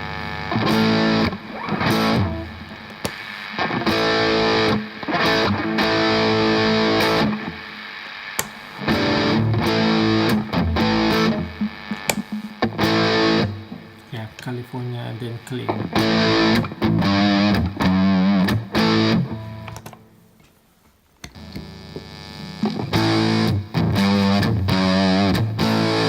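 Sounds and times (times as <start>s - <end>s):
distorted electric guitar chords: 0.0s - 19.8s, 21.4s - 26.0s.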